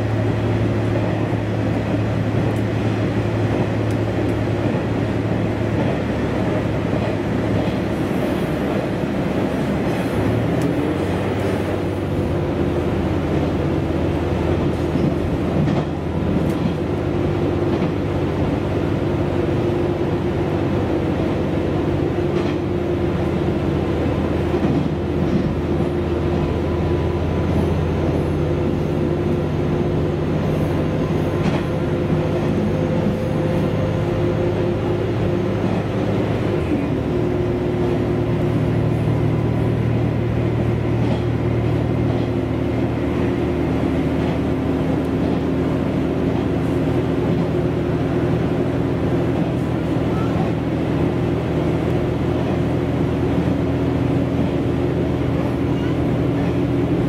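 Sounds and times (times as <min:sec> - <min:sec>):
train engine drone: 0:00.0 - 0:57.0
wheel and rail noise: 0:00.0 - 0:57.0.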